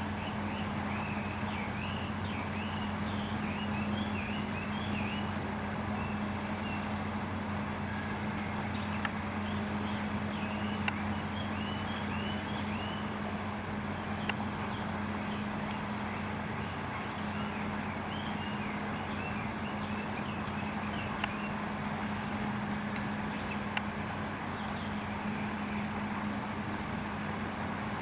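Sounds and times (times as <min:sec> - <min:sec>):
constant low hum: 0:00.0 - 0:28.0.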